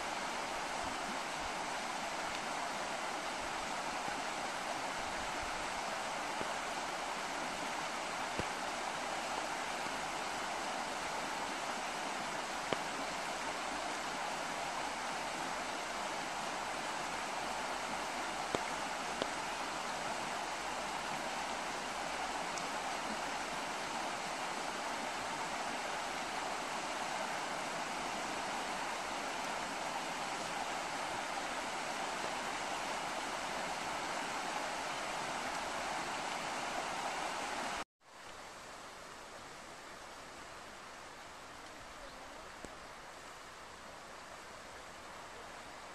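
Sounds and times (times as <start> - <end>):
water rushing over rapids: 0.0 - 45.9.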